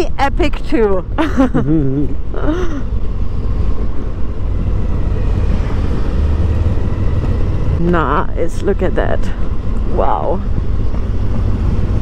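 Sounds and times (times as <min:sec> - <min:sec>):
wind rushing over microphone: 0:02.1 - 0:12.0.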